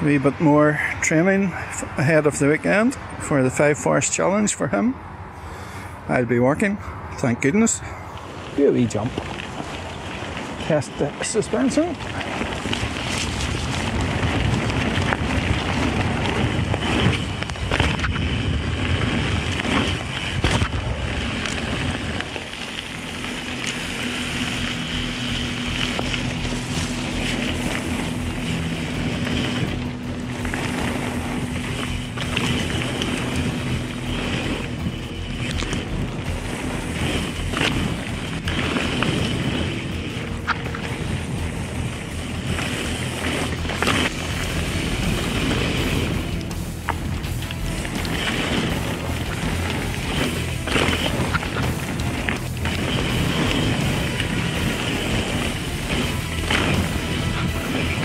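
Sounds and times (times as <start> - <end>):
tyres rumbling on gravel: 0.0 - 58.0
wind rushing over microphone: 0.0 - 58.0
bike knocking and rattling: 8.8 - 58.0.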